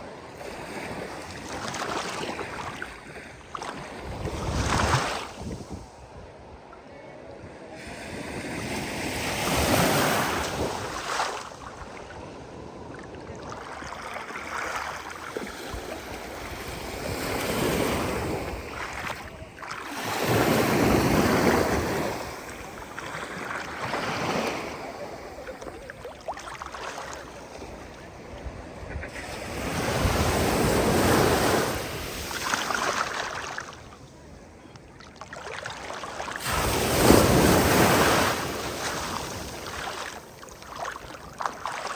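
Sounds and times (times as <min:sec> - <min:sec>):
ocean waves breaking: 0:00.0 - 0:05.4, 0:07.8 - 0:34.0, 0:35.0 - 0:41.9.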